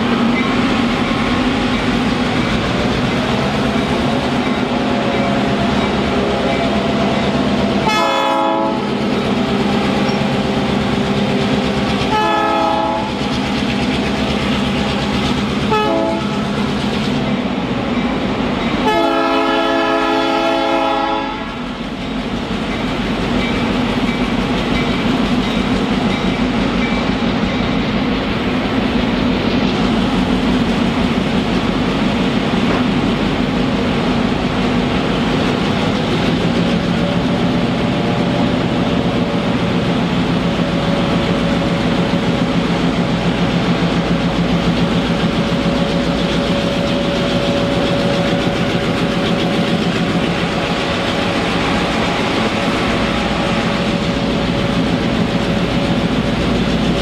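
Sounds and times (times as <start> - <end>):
diesel locomotive droning: 0.0 - 57.0.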